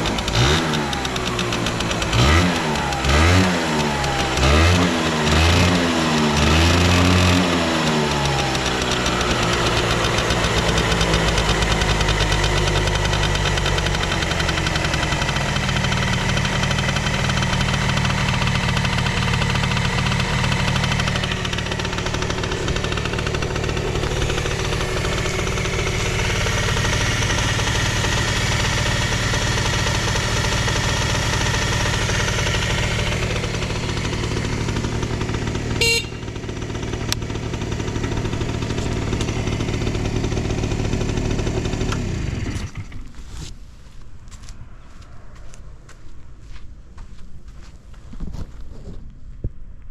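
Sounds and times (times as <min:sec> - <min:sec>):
scooter engine revving and idling: 0:00.0 - 0:43.5.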